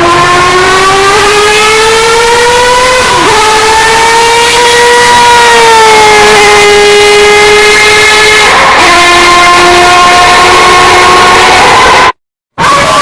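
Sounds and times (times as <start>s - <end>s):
rotary racing engine shrieking: 0.0s - 13.0s.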